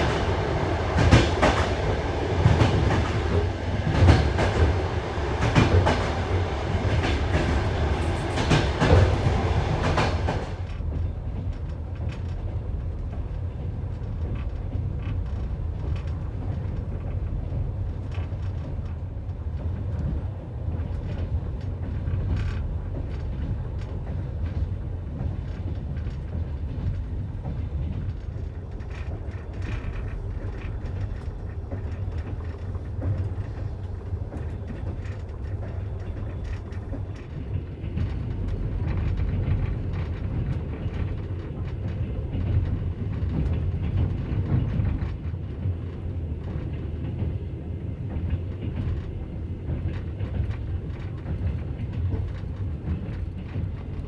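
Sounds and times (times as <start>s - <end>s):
train wheels rumbling on rails: 0.0s - 54.0s
faint clicks and rattles: 9.8s - 54.0s.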